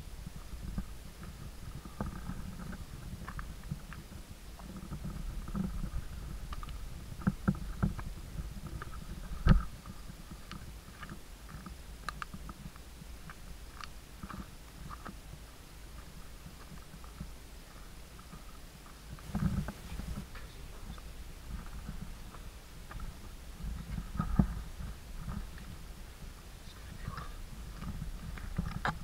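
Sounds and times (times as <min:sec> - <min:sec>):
footsteps on rocky trail: 0:00.0 - 0:29.0
camera handling rumble: 0:00.6 - 0:29.0.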